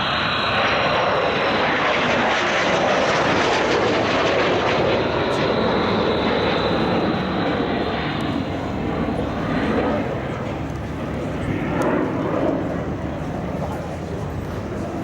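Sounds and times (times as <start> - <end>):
jet engines flying past: 0.0 - 15.0.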